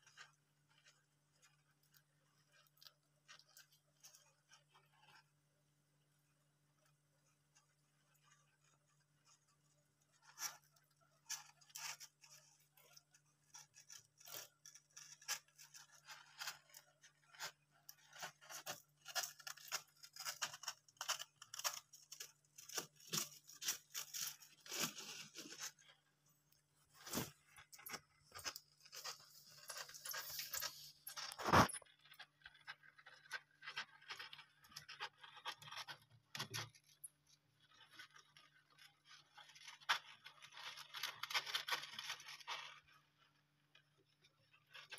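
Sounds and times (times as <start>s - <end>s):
hamsters scratching in bedding: 7.2s - 44.9s.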